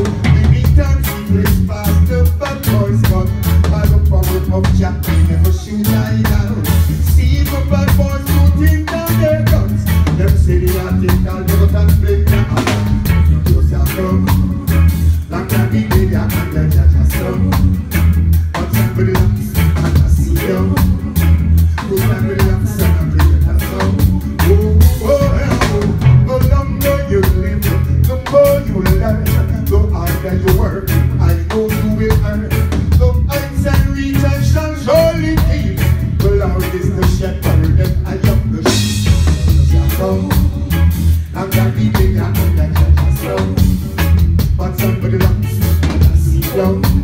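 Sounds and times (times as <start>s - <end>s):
man singing: 0.0s - 47.0s
reggae band playing: 0.0s - 47.0s.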